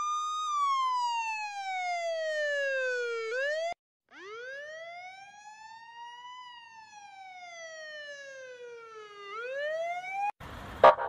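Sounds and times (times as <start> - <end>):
police siren wailing: 0.0 - 11.0.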